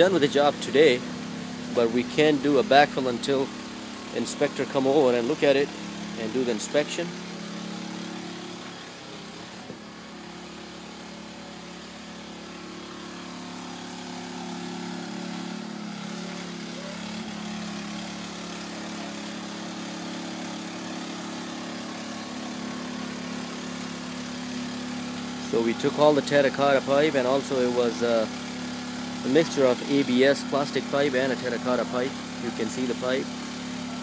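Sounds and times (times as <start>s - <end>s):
engine humming steadily: 0.0s - 34.0s.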